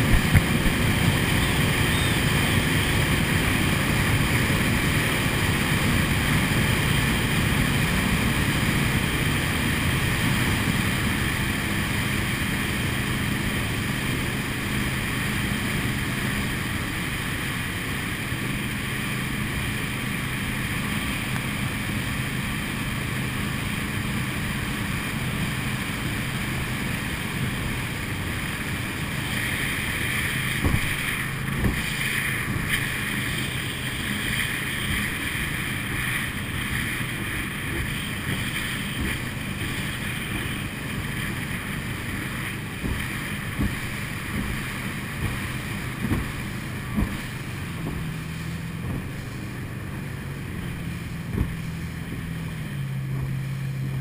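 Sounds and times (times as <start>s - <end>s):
motorboat engine running: 0.0s - 54.0s
water hissing along hull: 0.0s - 54.0s
wind on microphone: 0.0s - 54.0s.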